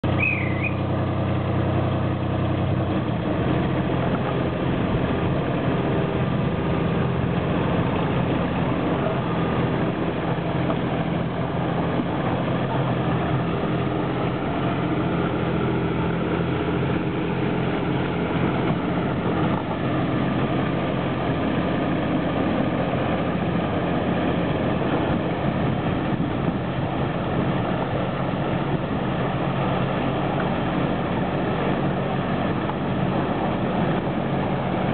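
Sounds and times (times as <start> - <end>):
low rumble: 0.0 - 34.9.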